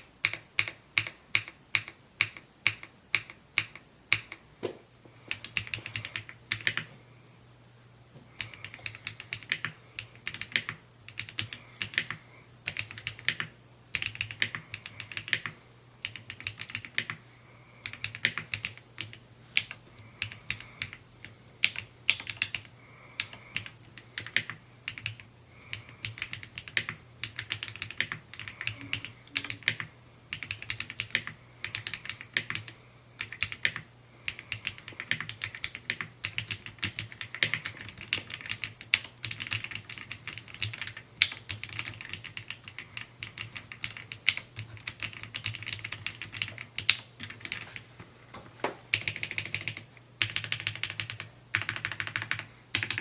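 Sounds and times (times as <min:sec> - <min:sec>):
mechanical keyboard typing: 0:00.0 - 0:04.4, 0:05.3 - 0:06.9, 0:08.4 - 0:17.2, 0:17.8 - 0:47.8, 0:48.9 - 0:53.0.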